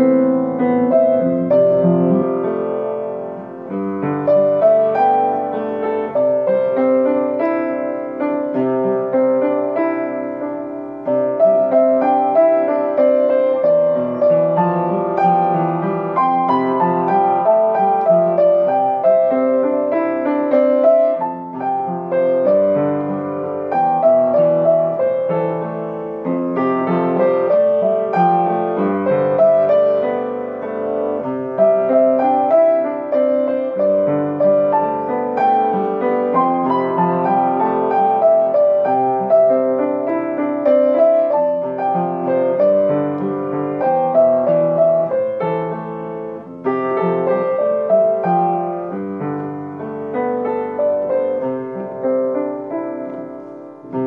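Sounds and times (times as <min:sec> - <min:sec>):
upright piano playing: 0:00.0 - 0:54.0.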